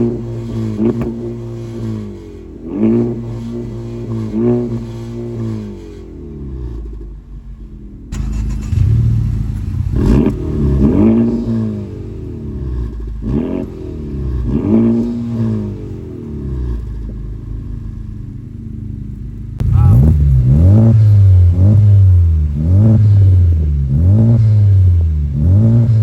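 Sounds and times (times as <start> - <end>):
car engine free-revving: 0.0 - 26.0.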